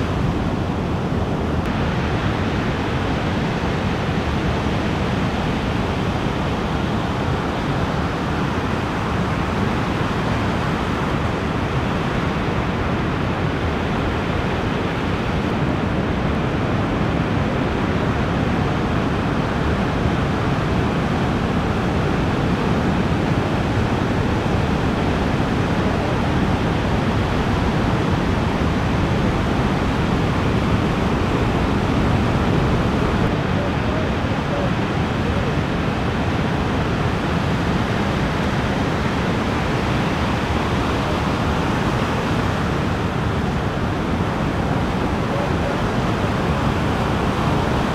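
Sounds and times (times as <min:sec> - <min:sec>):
ocean surf roaring: 0:00.0 - 0:47.9.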